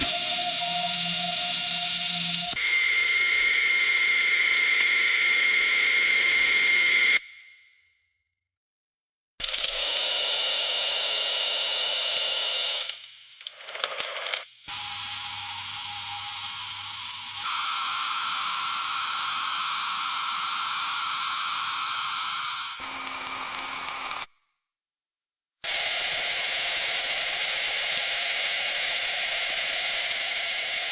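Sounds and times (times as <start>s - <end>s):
electric coffee grinder running: 0.0s - 7.2s, 9.4s - 12.9s, 14.7s - 24.3s, 25.6s - 30.9s.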